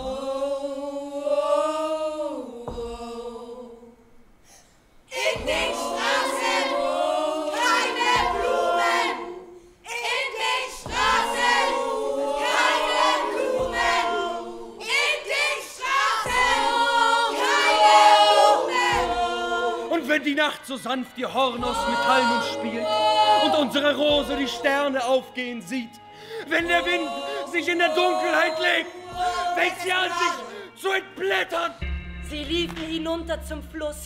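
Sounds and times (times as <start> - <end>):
choir singing in harmony: 0.0 - 4.2, 5.1 - 32.0.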